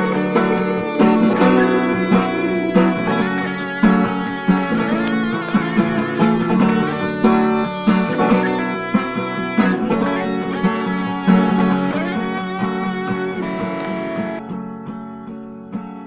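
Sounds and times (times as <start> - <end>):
guitar plucked and strummed: 0.0 - 16.0.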